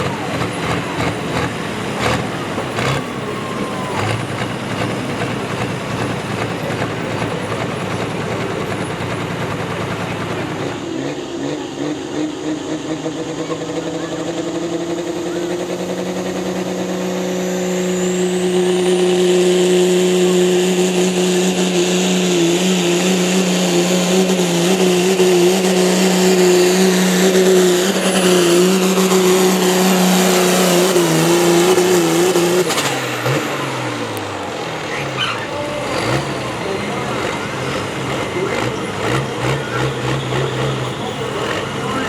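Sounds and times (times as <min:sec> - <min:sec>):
engine running flat out: 0:00.0 - 0:42.0.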